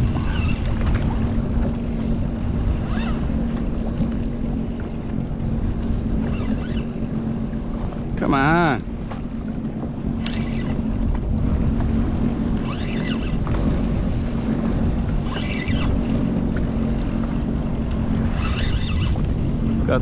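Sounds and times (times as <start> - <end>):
jet ski engine idling: 0.0 - 20.0
wind noise on microphone: 0.0 - 20.0.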